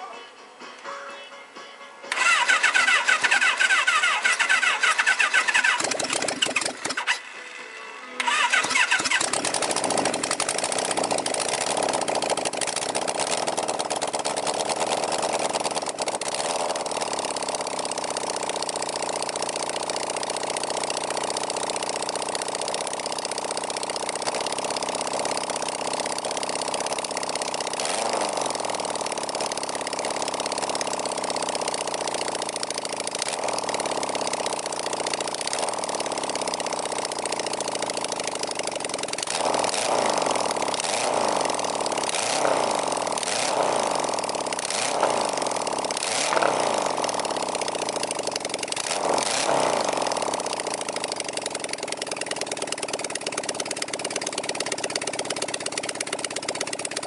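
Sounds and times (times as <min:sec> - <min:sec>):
motorcycle engine idling and revving: 0:02.1 - 0:57.0.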